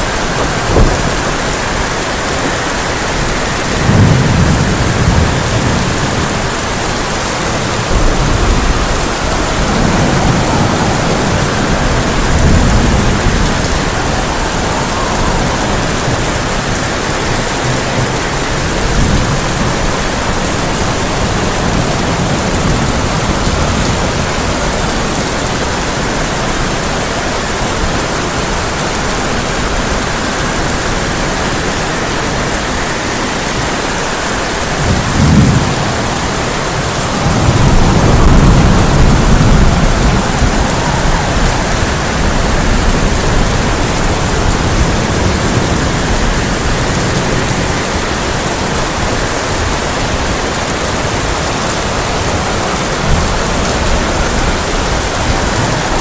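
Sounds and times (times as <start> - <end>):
heavy rain on a tin roof: 0.0 - 56.0
thunder rumbling: 0.0 - 56.0.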